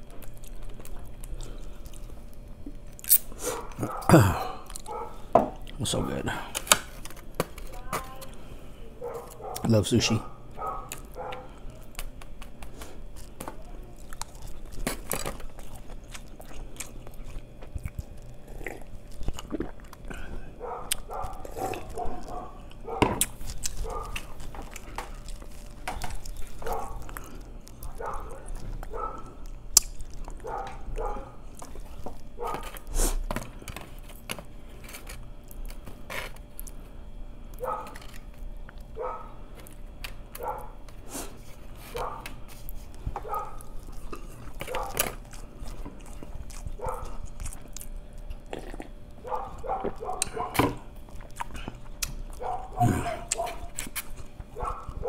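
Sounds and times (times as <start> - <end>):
man chewing food: 0.0 - 55.0.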